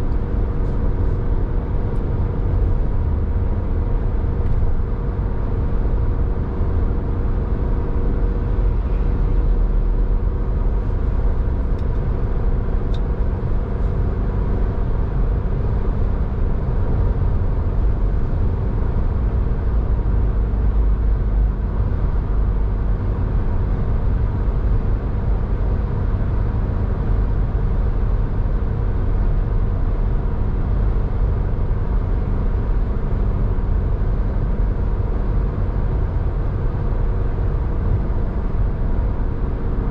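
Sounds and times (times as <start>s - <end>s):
road traffic rumble: 0.0s - 39.9s
vehicle engine hum: 0.0s - 39.9s.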